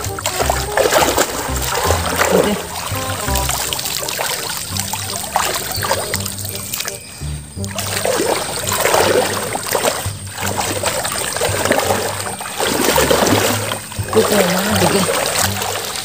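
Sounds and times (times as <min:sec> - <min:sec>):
river water splashing: 0:00.0 - 0:16.0.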